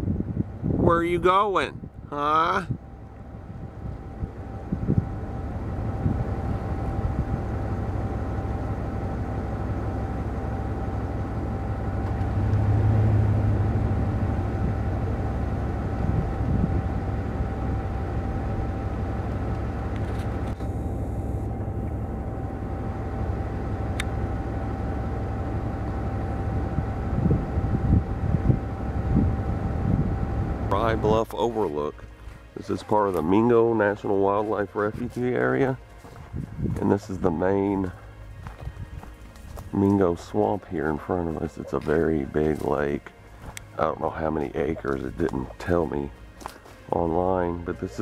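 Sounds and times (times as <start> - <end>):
wind rumbling on microphone: 0.0 - 46.2
faint steady hum: 0.0 - 48.0.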